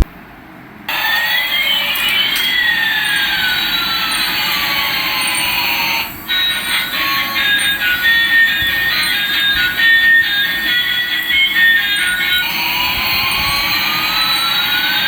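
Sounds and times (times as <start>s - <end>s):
jet engine rushing hiss: 0.9s - 15.0s
whistling tones: 0.9s - 15.0s.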